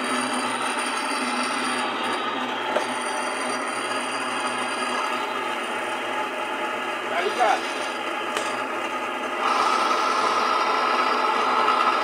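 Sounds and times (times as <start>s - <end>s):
spin dryer motor humming: 0.0s - 12.0s.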